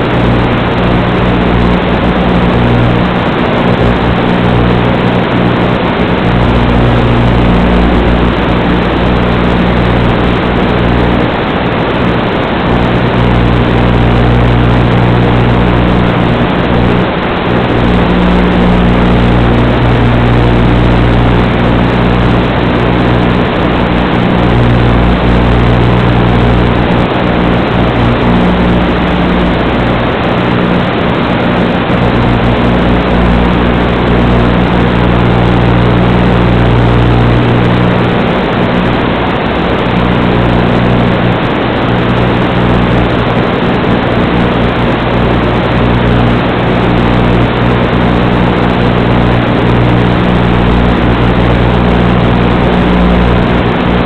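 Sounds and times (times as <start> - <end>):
low electrical buzz: 0.0 - 54.0
static hiss: 0.0 - 54.0.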